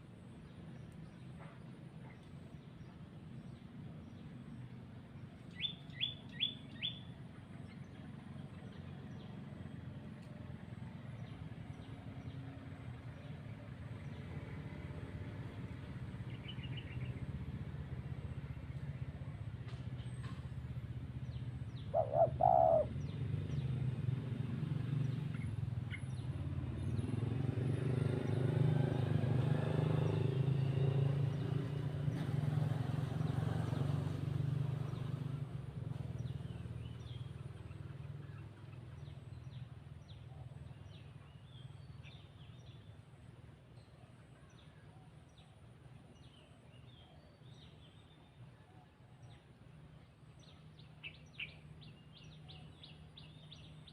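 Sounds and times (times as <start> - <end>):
small birds chirping: 0.4 - 14.4, 15.4 - 43.0, 49.2 - 53.9.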